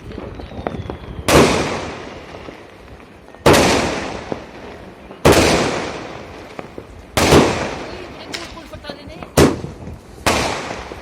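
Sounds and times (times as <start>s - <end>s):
fireworks bangs: 0.0s - 11.0s
fireworks crackles: 0.0s - 11.0s.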